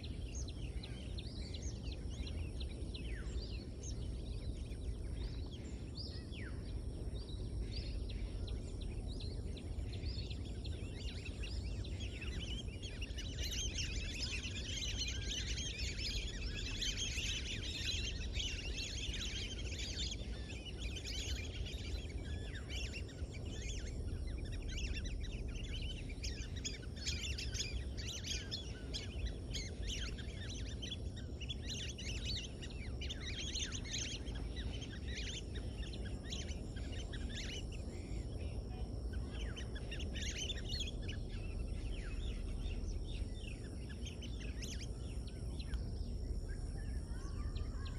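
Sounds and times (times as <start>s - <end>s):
low background rumble: 0.0s - 47.9s
small birds chirping: 0.0s - 47.9s.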